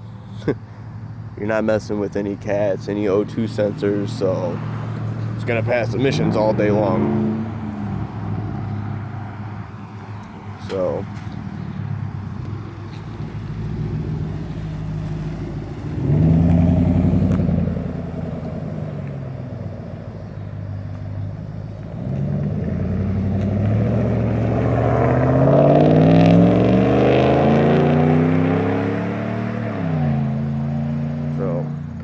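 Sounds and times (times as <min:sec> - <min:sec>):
truck engine exhaust revving: 0:01.6 - 0:32.0.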